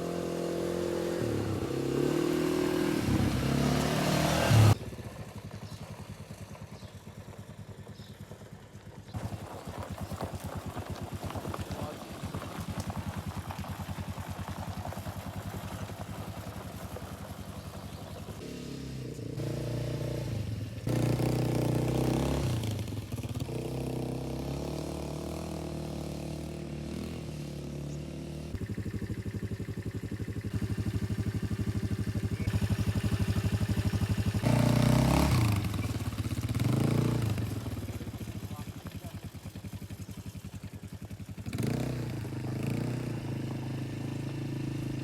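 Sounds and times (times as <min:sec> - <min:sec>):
quad bike engine revving: 0:00.0 - 0:45.0.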